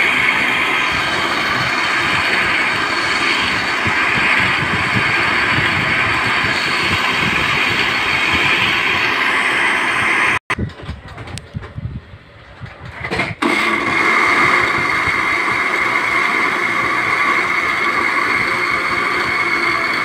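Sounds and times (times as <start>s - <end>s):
blender running at high speed: 0.0s - 10.4s, 13.4s - 20.0s.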